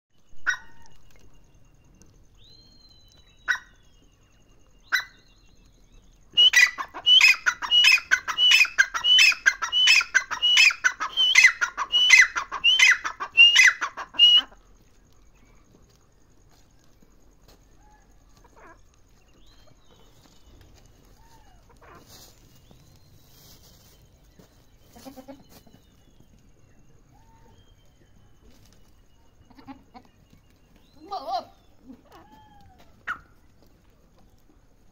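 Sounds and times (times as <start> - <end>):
francolin calling: 0.2 - 16.2, 17.0 - 33.4.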